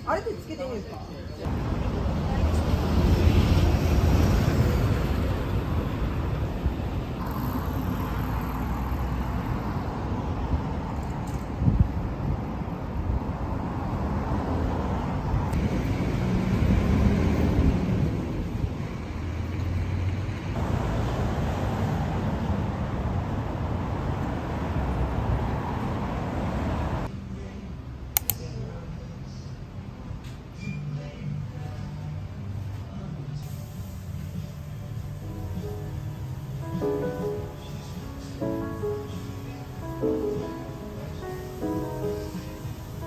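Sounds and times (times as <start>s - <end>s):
steady traffic noise: 0.0s - 43.0s
bus engine rumble: 1.0s - 43.0s.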